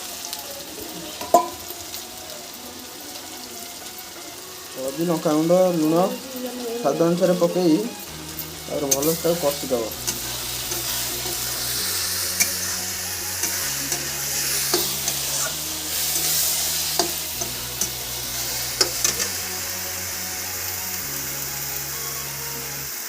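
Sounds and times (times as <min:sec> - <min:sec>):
paste sizzling in hot oil: 0:00.0 - 0:23.0.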